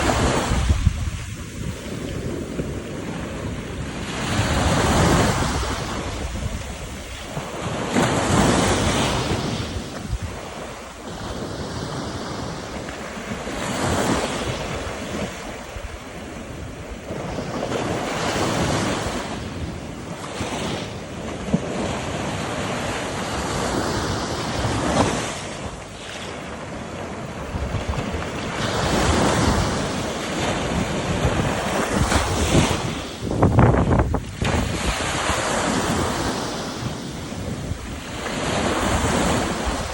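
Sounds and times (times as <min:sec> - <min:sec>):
sea waves crashing: 0:00.0 - 0:39.9
wind buffeting microphone: 0:00.0 - 0:39.9.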